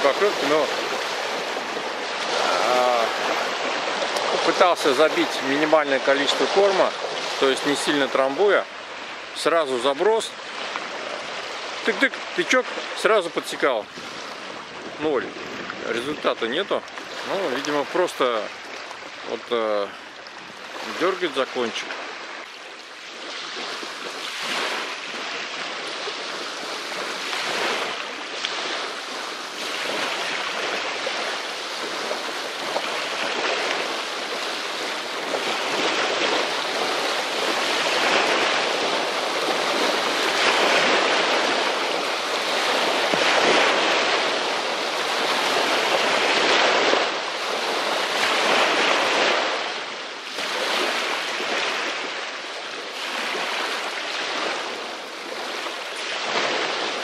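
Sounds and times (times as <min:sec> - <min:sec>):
waves lapping on pebble shore: 0:00.0 - 0:57.0.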